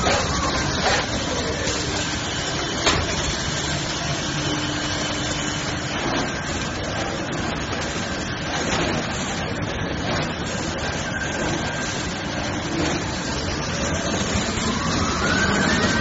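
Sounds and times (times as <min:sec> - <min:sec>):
production machinery running: 0:00.0 - 0:16.0.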